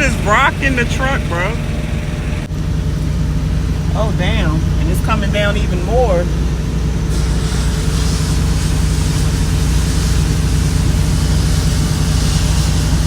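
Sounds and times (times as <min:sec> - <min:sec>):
diesel engine idling: 0:00.0 - 0:13.0
heavy rain on truck: 0:00.0 - 0:13.0.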